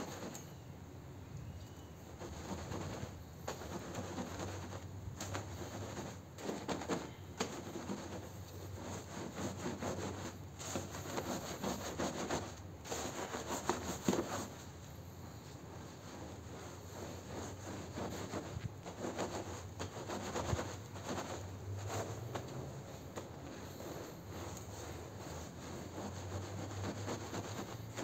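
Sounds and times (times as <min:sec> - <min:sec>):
broom scrubbing wet rug: 0:02.2 - 0:28.0.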